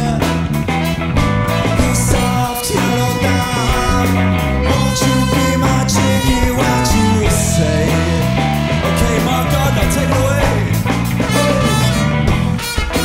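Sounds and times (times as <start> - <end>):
drums: 0.0 - 13.0
electric bass: 0.0 - 13.0
electric guitar: 0.0 - 13.0
trumpet: 0.0 - 13.0.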